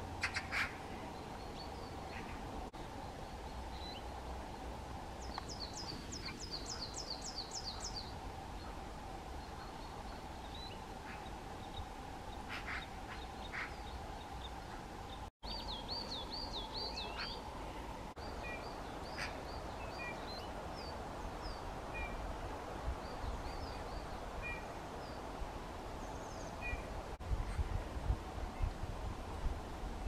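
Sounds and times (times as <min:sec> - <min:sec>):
songbirds singing: 0:00.0 - 0:27.8
steady background hiss: 0:00.0 - 0:30.0.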